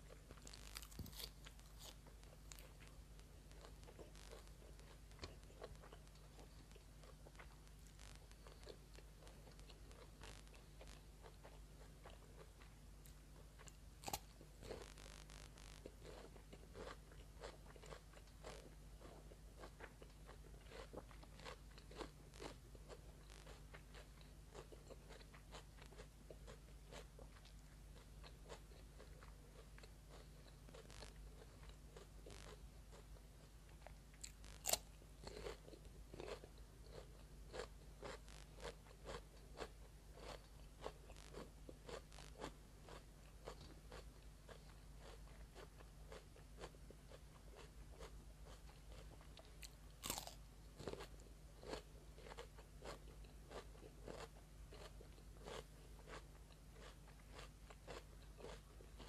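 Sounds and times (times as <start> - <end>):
cucumber crunching chews: 0.1 - 59.0.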